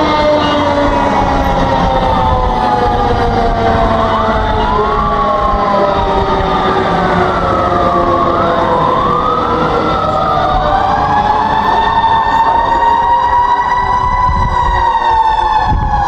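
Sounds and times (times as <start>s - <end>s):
rising and falling siren: 0.0s - 16.0s.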